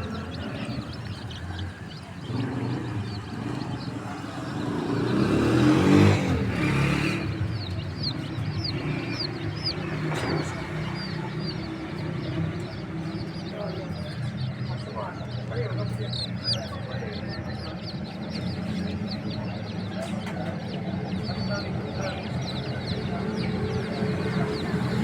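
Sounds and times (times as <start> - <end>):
baby chicks peeping: 0.0 - 25.0
vehicle passing by: 0.0 - 25.0.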